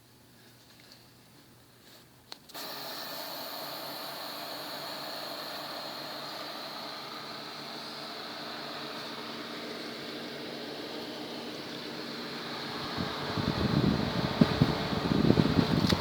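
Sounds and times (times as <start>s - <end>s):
computer fans whirring: 2.5s - 16.0s.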